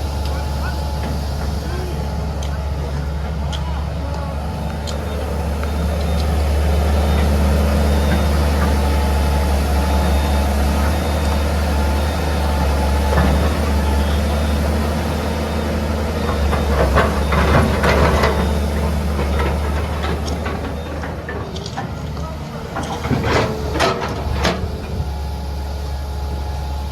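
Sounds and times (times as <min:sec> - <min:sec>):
heavy diesel machinery running: 0:00.0 - 0:26.9.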